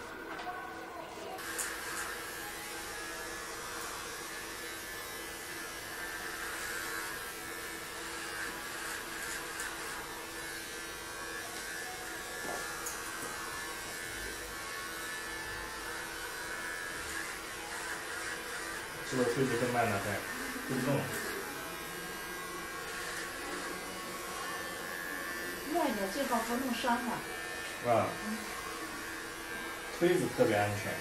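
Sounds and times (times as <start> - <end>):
blades cutting hair: 1.1 - 31.0
electric hair clippers buzzing: 1.3 - 31.0.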